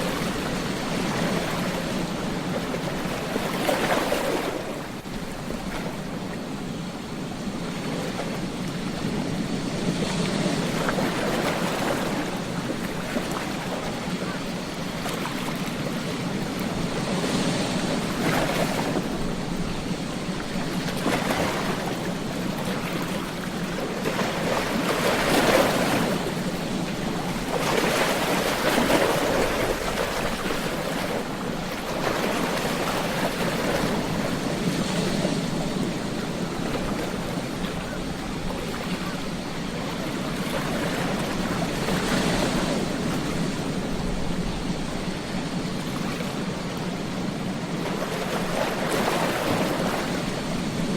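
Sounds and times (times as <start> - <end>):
ocean surf on a beach: 0.0 - 50.9.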